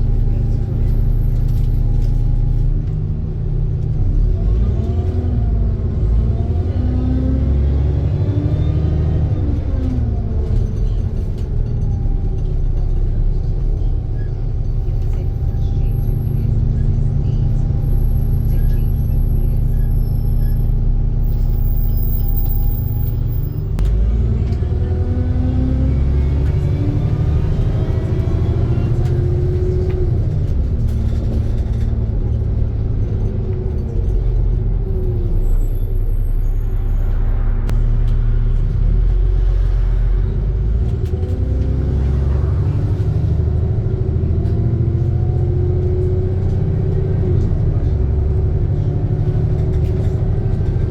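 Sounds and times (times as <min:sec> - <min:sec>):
bus engine idling and accelerating: 0:00.0 - 0:50.9.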